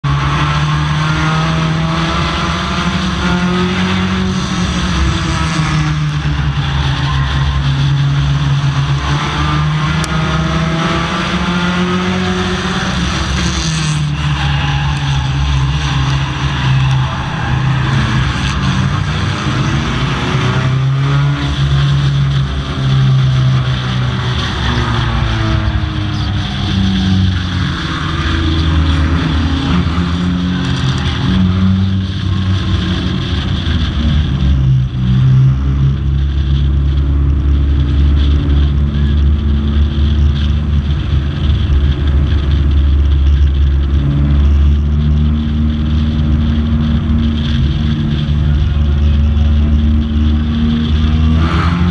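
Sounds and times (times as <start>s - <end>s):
car engine at moderate revs: 0.0s - 51.9s.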